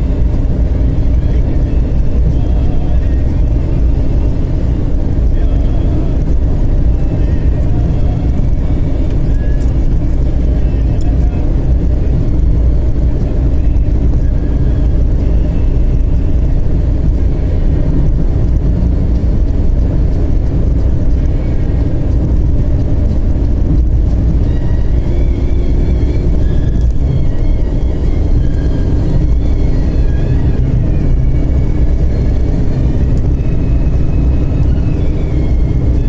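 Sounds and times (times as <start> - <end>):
engine and road noise rumble: 0.0 - 36.0.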